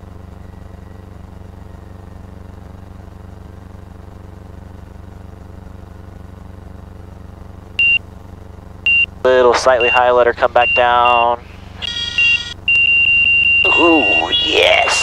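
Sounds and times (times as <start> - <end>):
airplane piston engine droning: 0.0 - 15.0.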